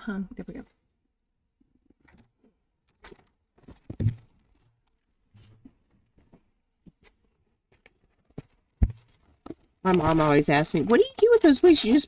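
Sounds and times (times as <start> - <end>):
objects handled on a table: 1.8 - 12.0.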